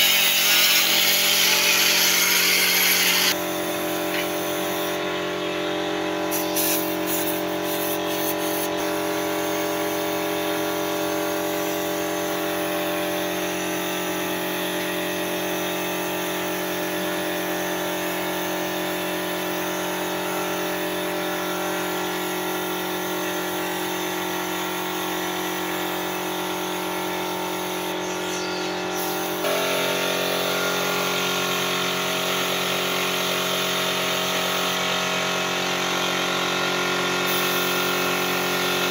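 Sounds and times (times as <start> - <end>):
spray gun hissing: 0.0 - 5.1, 6.2 - 34.8, 37.3 - 38.9
mechanical hum of air supply: 0.0 - 38.9.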